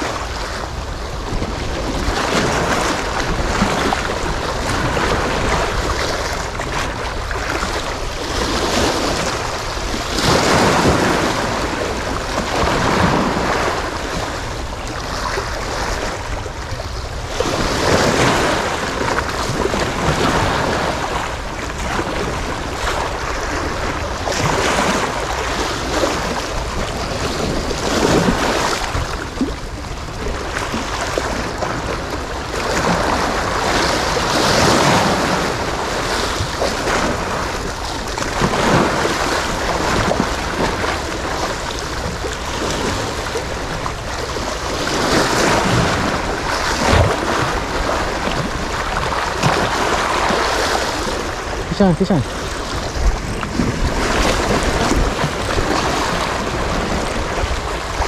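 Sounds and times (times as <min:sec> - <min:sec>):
sea waves washing: 0:00.0 - 0:58.0
wind buffeting the microphone: 0:00.0 - 0:58.0.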